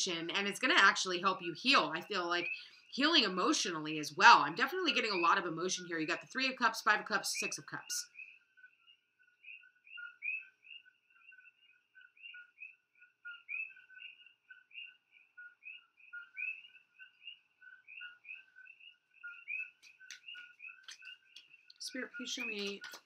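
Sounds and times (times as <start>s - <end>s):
frogs chirping: 0.0s - 23.0s.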